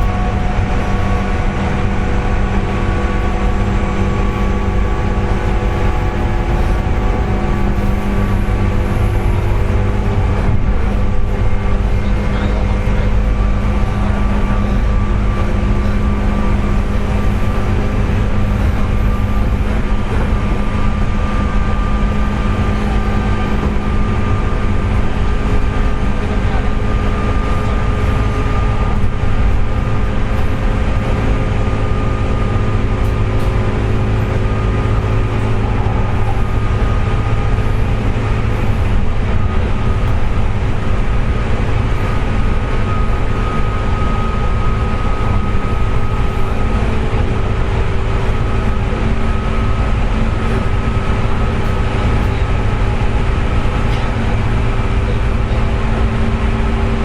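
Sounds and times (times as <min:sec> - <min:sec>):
train rail rumble: 0:00.0 - 0:57.0.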